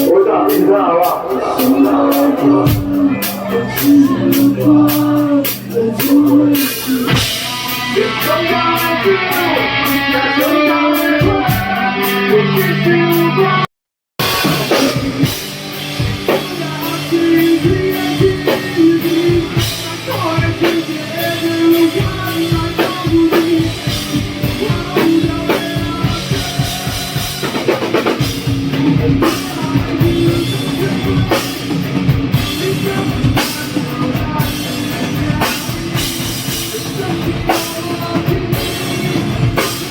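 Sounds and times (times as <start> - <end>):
drum kit beat: 0.0 - 13.4, 14.2 - 39.9
person singing: 0.0 - 15.5, 16.2 - 39.9
electric guitar: 0.0 - 39.9.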